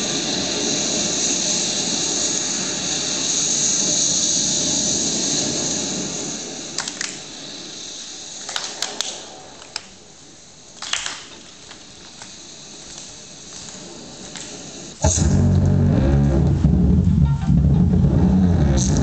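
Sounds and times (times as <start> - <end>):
steady hissing: 0.0 - 19.0.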